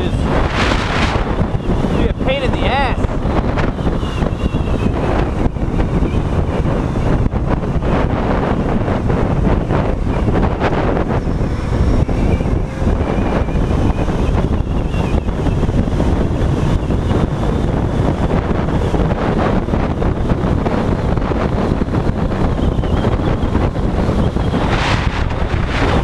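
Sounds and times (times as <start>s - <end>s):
motorcycle running: 0.0s - 26.0s
road noise: 0.0s - 26.0s
wind buffeting microphone: 0.0s - 26.0s.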